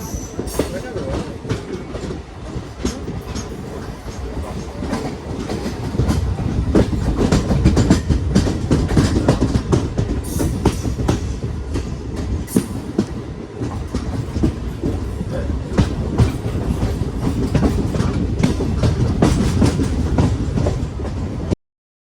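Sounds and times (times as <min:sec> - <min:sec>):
train rumbling: 0:00.0 - 0:21.6
train wheels clacking: 0:00.0 - 0:21.6.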